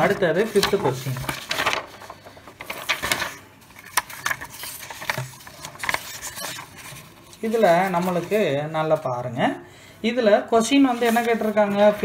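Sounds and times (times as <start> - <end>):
notebook pages rustling: 0.0 - 9.3, 10.7 - 12.0.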